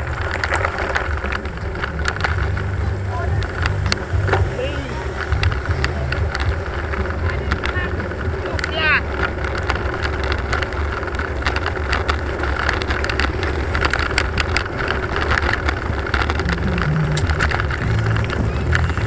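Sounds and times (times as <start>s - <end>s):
bicycle clicks and rattles: 0.0s - 19.0s
motorbike engine hum: 0.0s - 19.0s
wind and road rumble: 0.0s - 19.0s.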